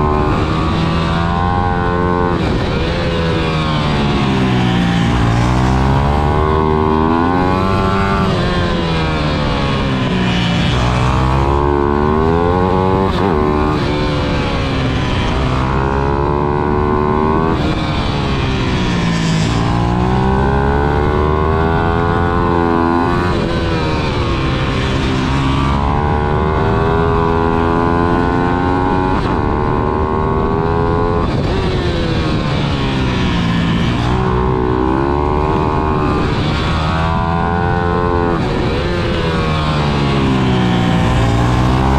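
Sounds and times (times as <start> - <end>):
pit bike engine revving: 0.0 - 41.9.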